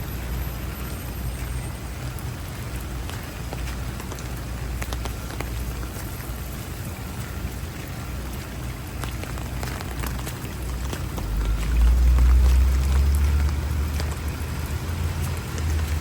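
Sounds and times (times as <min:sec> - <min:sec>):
heavy rain falling: 0:00.0 - 0:16.0
raindrops ticking: 0:00.0 - 0:16.0.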